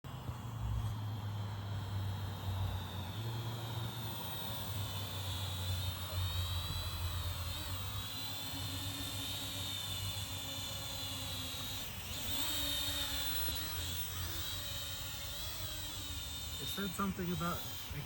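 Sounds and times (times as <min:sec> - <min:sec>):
drone motors whining: 0:00.1 - 0:18.0
steady low hum: 0:00.1 - 0:18.0.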